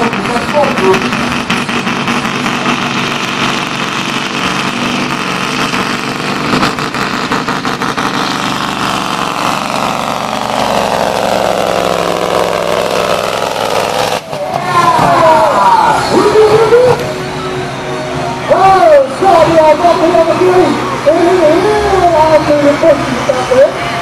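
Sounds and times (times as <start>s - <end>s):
truck engine running under load: 0.0s - 24.0s.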